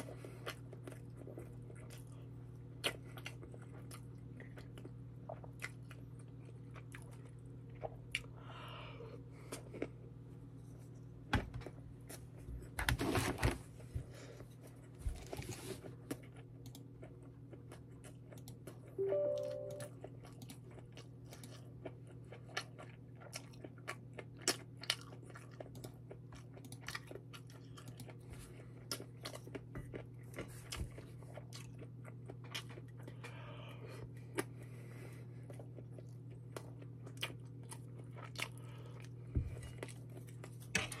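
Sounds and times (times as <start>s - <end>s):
person chewing food: 0.0s - 12.8s, 14.0s - 41.0s
low steady hum: 0.0s - 41.0s.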